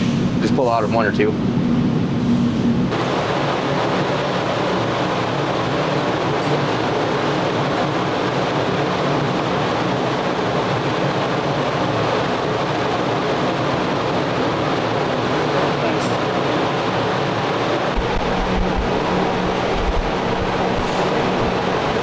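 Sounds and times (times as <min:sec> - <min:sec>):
machinery rumble and rush: 0:00.0 - 0:22.0.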